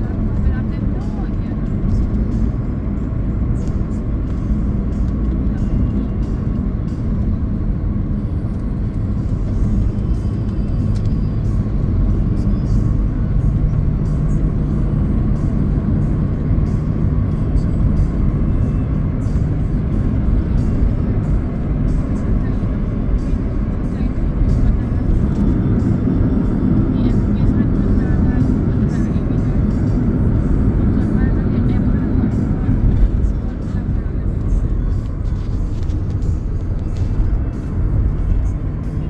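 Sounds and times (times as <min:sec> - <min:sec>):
car road and engine rumble: 0:00.0 - 0:39.0
music playing: 0:00.0 - 0:39.0.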